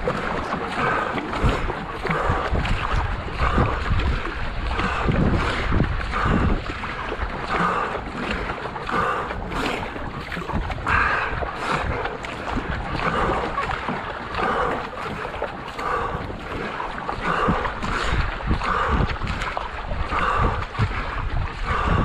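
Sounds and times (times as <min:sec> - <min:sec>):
hull rushing through water: 0:00.0 - 0:22.0
paddle blade splashes: 0:00.0 - 0:22.0
wind rumble on microphone: 0:00.0 - 0:22.0.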